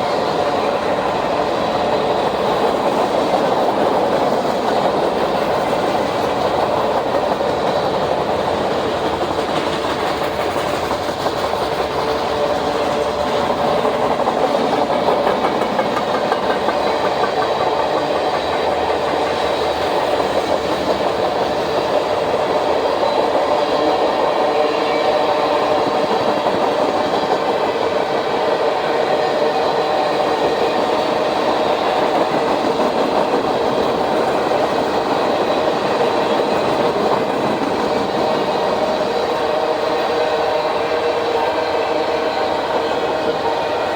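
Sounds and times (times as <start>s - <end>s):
train wheels on track: 0.0s - 43.9s.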